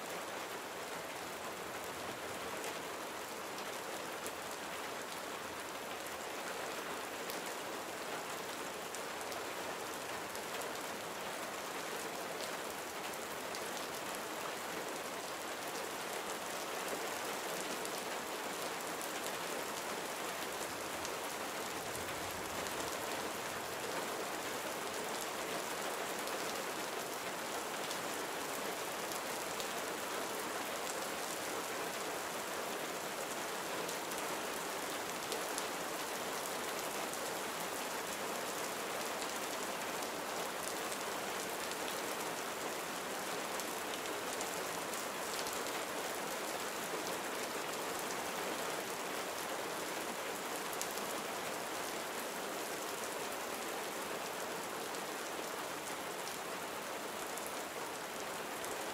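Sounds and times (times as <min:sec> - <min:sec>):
gentle rain falling: 0:00.0 - 0:58.9.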